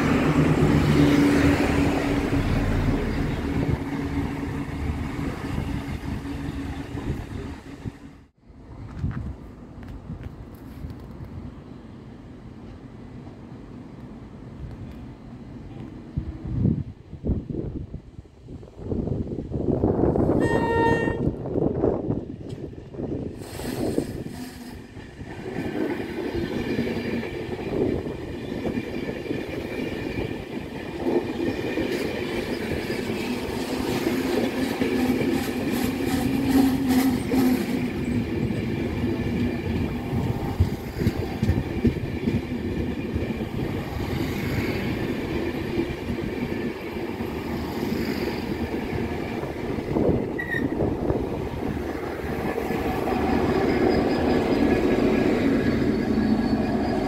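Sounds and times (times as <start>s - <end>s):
train wheels rumbling on rails: 0.0s - 11.6s, 18.6s - 57.0s
diesel locomotive passing: 0.0s - 57.0s.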